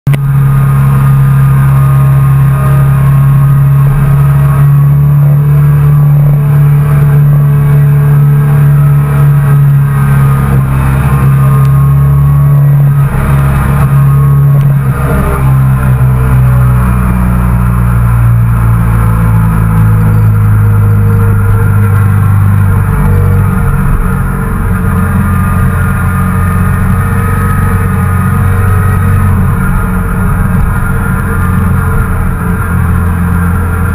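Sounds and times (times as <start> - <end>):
motorcycle engine cruising: 0.1 - 33.9.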